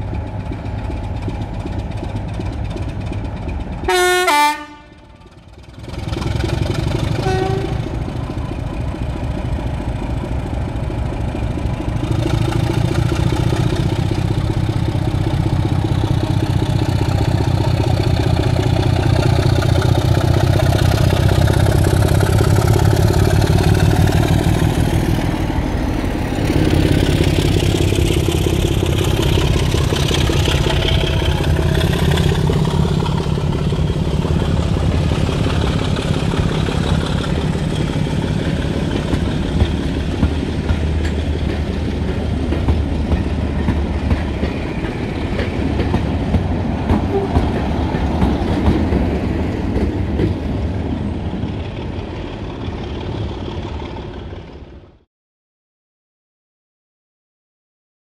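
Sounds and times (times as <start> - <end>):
train rumbling on track: 0.0 - 55.1.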